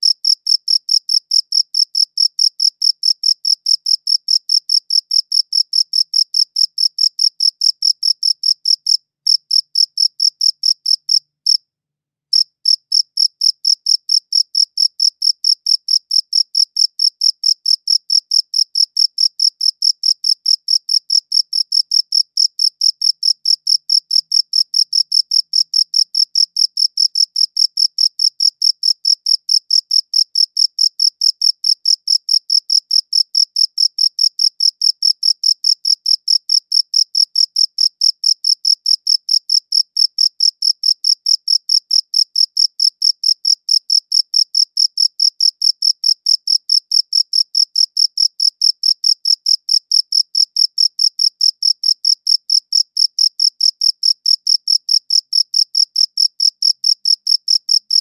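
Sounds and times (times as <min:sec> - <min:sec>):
cricket chirping: 0:00.0 - 0:11.6, 0:12.3 - 0:58.0.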